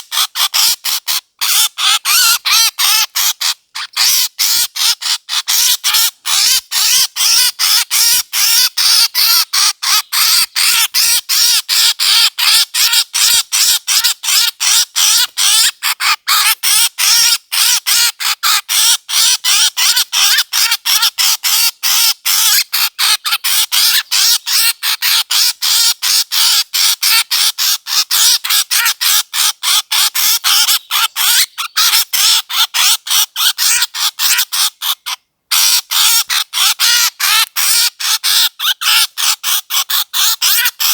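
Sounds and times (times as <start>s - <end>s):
harsh squawking bird calls: 0.0s - 40.9s.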